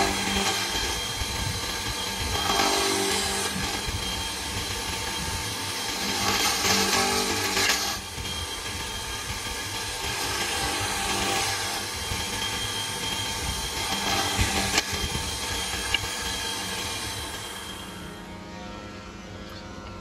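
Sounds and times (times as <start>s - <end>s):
drill bit boring into wood: 0.0s - 18.2s
drill press motor hum: 0.0s - 20.0s.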